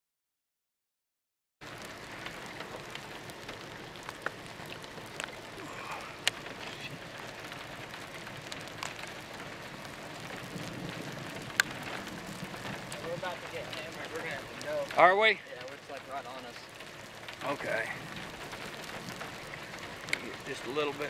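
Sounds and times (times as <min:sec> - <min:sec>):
rain falling: 0:01.6 - 0:21.0.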